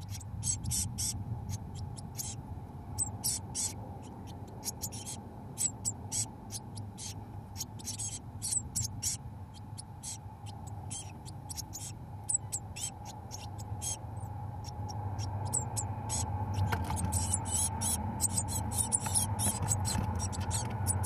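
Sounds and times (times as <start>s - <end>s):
low hum: 0.0s - 21.0s
nestlings cheeping: 0.0s - 21.0s.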